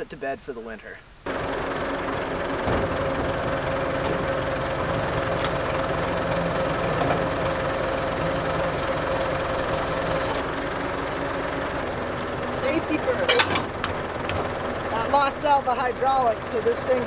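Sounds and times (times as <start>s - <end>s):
steady whine: 0.8s - 17.0s
tractor engine idling: 1.3s - 17.0s.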